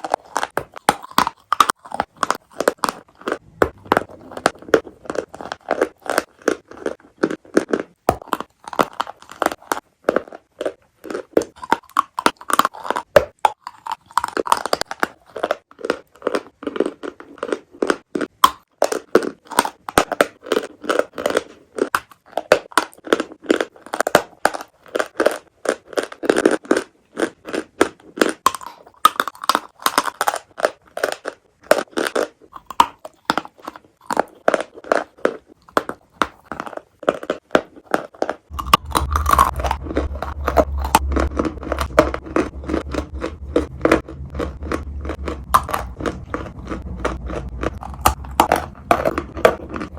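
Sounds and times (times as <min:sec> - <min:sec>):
chewing crunchy chalk: 0:00.0 - 0:49.9.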